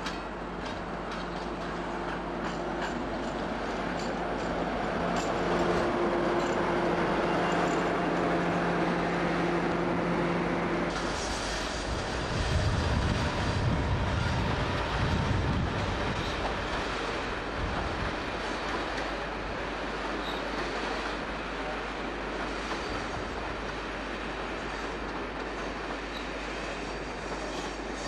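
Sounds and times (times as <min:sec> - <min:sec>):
electric locomotive humming: 0:00.0 - 0:28.0
train wheels rumbling on rails: 0:00.0 - 0:28.0.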